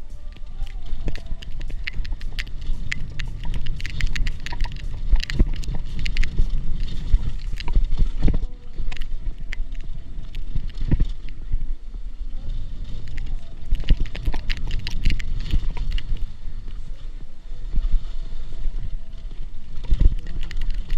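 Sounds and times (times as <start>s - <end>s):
bike clicks and rattles: 0.0s - 11.5s, 12.4s - 16.9s, 19.1s - 20.9s
bike low rumble: 0.0s - 20.9s
wind on microphone: 0.0s - 20.9s.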